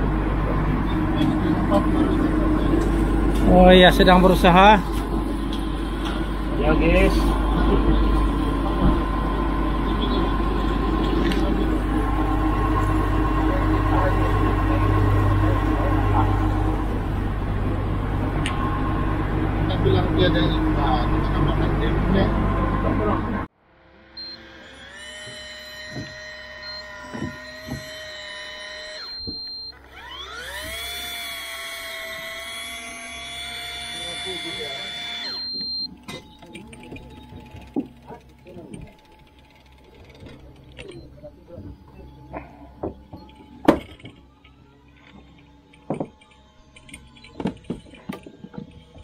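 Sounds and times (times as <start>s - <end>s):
fishing reel motor whining: 0.0s - 22.3s, 23.9s - 49.0s
faint steady hum: 0.0s - 49.0s.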